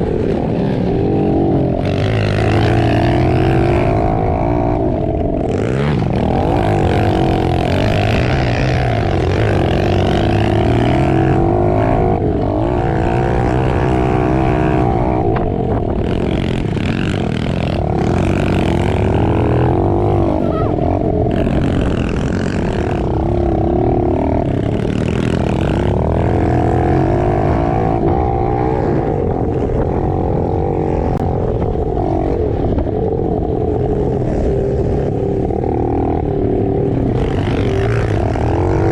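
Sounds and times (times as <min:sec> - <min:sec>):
motorbike engines revving: 0:00.0 - 0:38.9.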